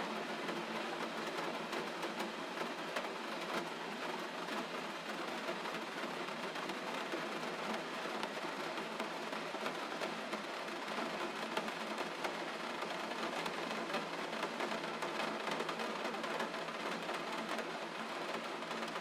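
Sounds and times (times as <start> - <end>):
gentle rain falling: 0.0 - 19.0.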